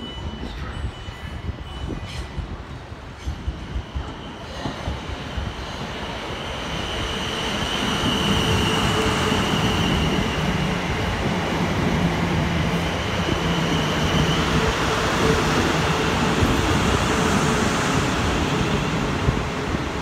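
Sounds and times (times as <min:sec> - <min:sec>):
high train whine: 0:00.0 - 0:20.0.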